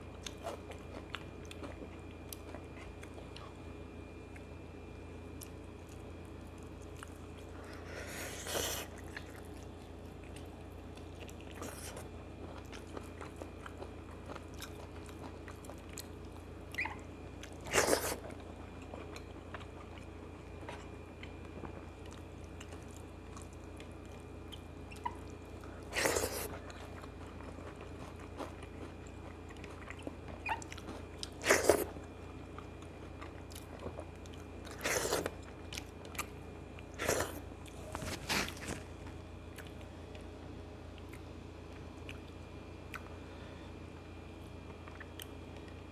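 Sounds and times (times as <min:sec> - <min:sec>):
man chewing with mouth clicks: 0:00.1 - 0:03.6, 0:05.3 - 0:40.3, 0:40.9 - 0:43.2, 0:44.6 - 0:45.8.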